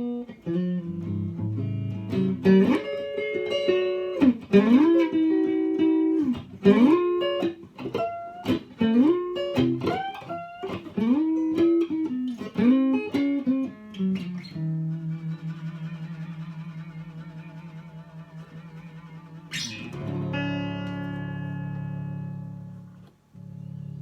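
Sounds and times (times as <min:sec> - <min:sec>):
electric guitar single-note line: 0:00.0 - 0:24.0.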